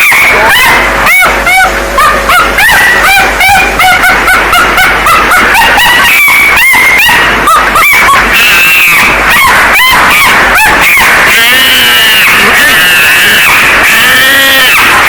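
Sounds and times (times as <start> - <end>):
distorted monkey shrieks: 0.0 - 15.0.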